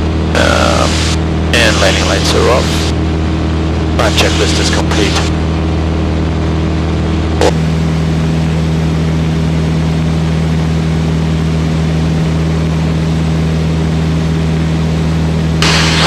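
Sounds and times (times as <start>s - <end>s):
propeller aircraft engine droning: 0.0s - 16.0s.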